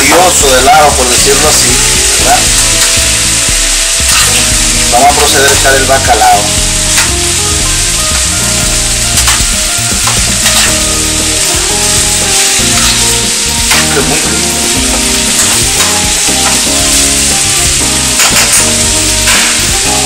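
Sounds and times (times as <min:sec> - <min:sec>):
vegetables sizzling in a frying pan: 0:00.0 - 0:20.0
metal utensil scraping a pan: 0:00.1 - 0:07.9, 0:09.1 - 0:20.0.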